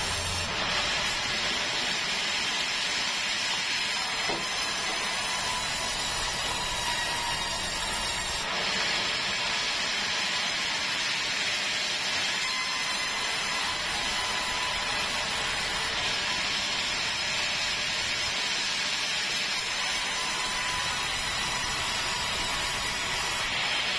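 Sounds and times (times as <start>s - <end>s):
saw cutting timber: 0.0s - 23.9s.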